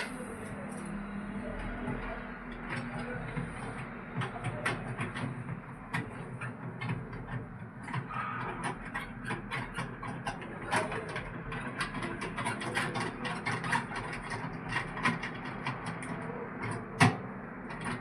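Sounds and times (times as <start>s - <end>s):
small clicks and knocks: 1.6s - 18.0s.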